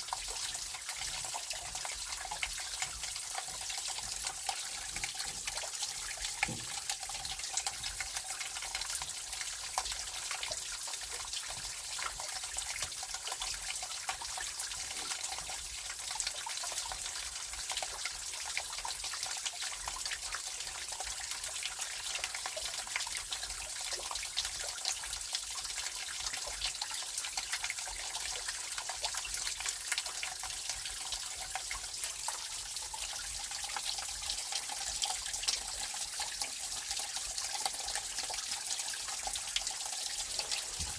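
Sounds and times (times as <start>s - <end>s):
stream water trickling and splashing: 0.0s - 40.9s.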